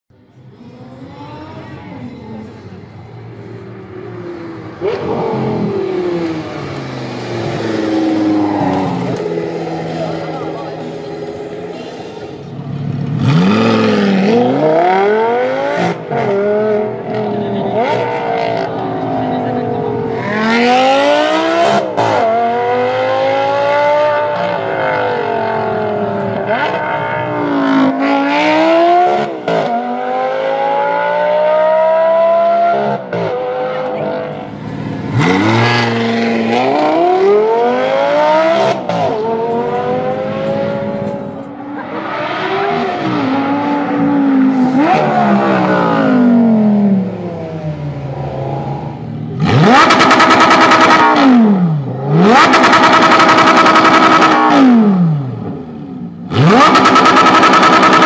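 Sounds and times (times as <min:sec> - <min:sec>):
sports car accelerating: 0:00.4 - 0:58.0.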